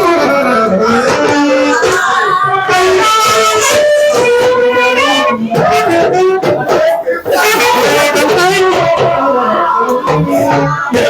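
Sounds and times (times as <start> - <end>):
instrumental accompaniment: 0.0 - 11.0
person singing: 0.0 - 11.0.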